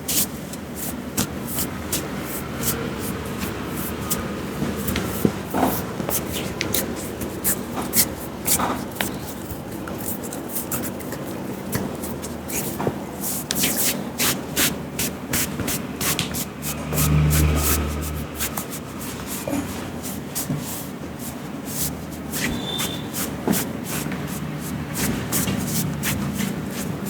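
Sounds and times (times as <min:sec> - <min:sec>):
hands rubbing on head: 0:00.0 - 0:27.0.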